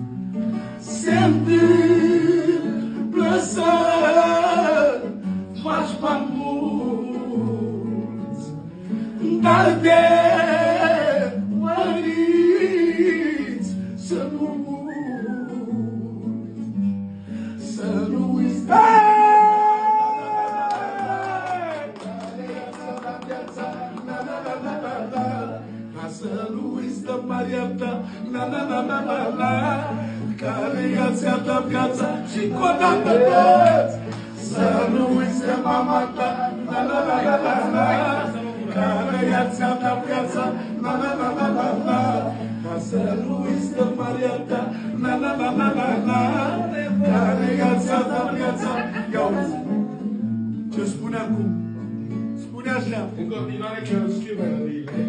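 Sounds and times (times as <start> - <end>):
strummed acoustic guitar: 0.0 - 55.0
man singing: 0.8 - 16.6, 17.6 - 55.0.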